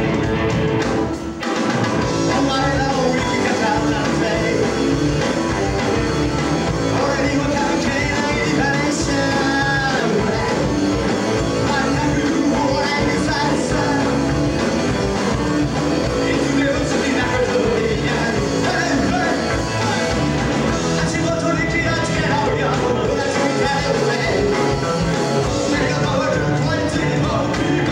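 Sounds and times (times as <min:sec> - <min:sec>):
drums: 0:00.0 - 0:27.9
electric guitars: 0:00.0 - 0:27.9
rock band playing live: 0:00.0 - 0:27.9.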